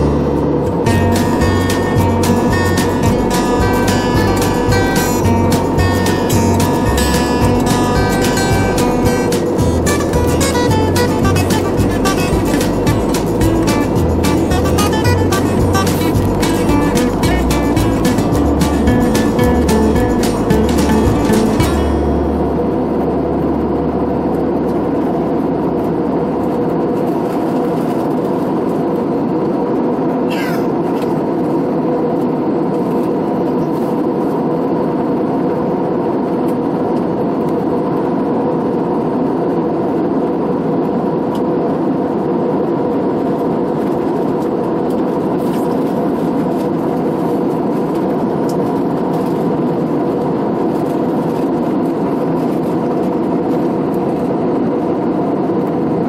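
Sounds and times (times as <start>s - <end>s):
airliner cabin jet engine drone: 0.0s - 56.0s.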